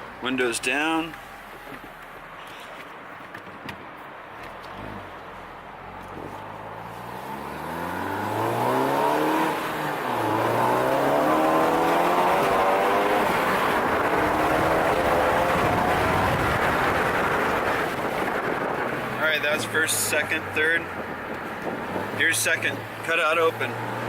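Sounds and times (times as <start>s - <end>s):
car engine accelerating hard: 4.6s - 24.0s.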